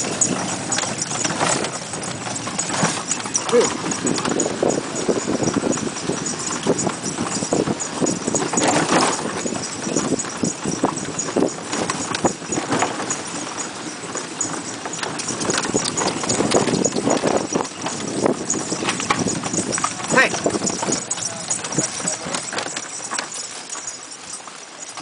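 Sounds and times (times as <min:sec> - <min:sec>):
pony hooves clip-clopping: 0:00.0 - 0:25.0.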